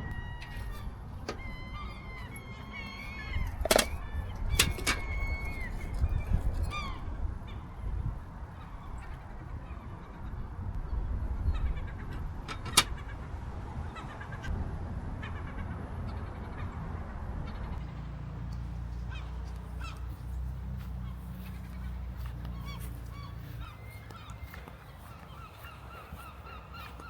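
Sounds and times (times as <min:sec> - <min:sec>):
birds calling: 0:00.0 - 0:14.5, 0:17.6 - 0:27.0.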